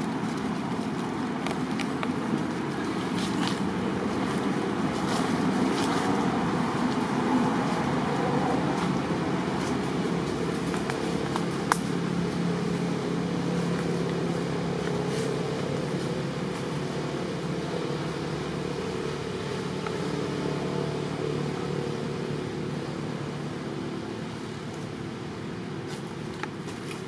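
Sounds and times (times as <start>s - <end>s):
low mechanical drone: 0.0s - 27.0s.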